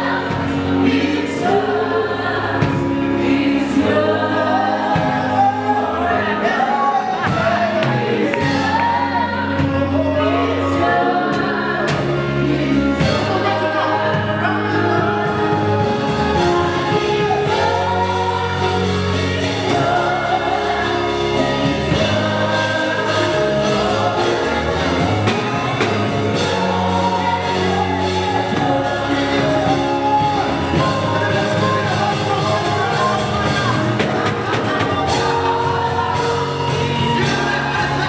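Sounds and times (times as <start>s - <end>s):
gospel choir singing: 0.0s - 38.0s
sustained bass: 0.0s - 38.0s.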